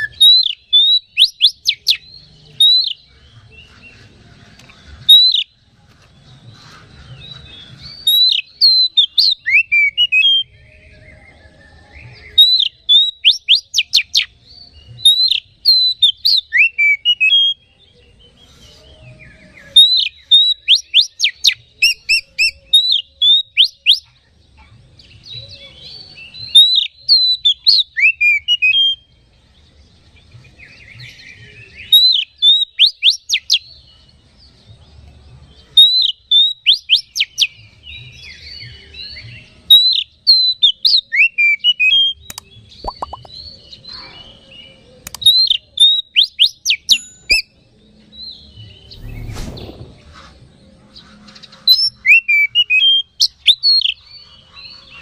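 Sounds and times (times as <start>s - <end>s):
bird singing whistled notes: 0.0s - 4.0s, 5.0s - 5.6s, 6.9s - 24.2s, 25.0s - 50.4s, 51.2s - 55.0s.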